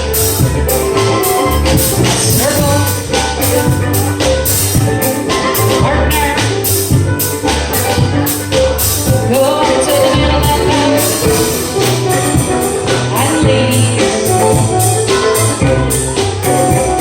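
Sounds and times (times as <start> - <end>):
fiddle: 0.0 - 17.0
keyboard: 0.0 - 17.0
mandolin: 0.0 - 17.0
percussion driving beat: 0.0 - 17.0.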